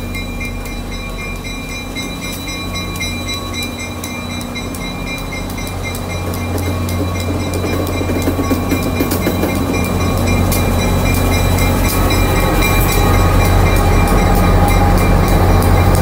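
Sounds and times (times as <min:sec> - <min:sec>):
diesel locomotive engine hum: 0:00.0 - 0:16.0
thin high whine: 0:00.0 - 0:16.0
train wheels clicking on rails: 0:00.0 - 0:16.0.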